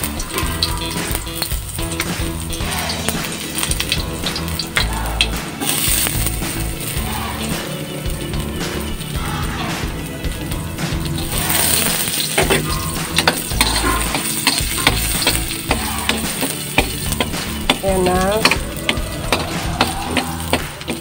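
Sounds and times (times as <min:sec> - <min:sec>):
garlic sizzling in oil: 0:00.0 - 0:21.0
spatula scraping wok: 0:00.0 - 0:21.0.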